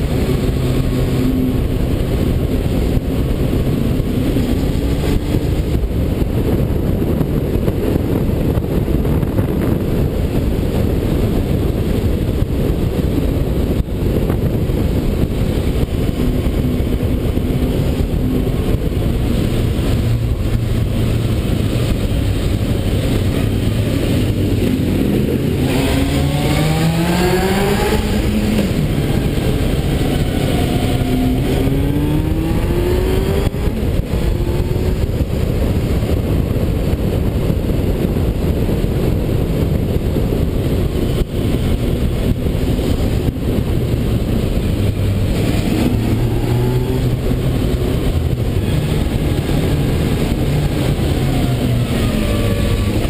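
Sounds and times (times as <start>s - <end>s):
motorcycle engine accelerating: 0.0s - 53.0s
wind and road noise: 0.0s - 53.0s.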